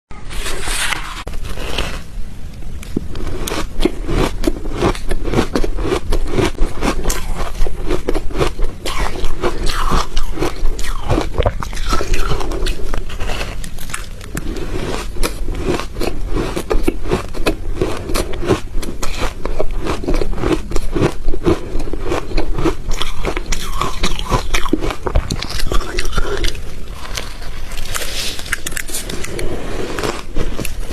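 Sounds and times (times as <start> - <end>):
ice being chewed: 2.8 - 30.9.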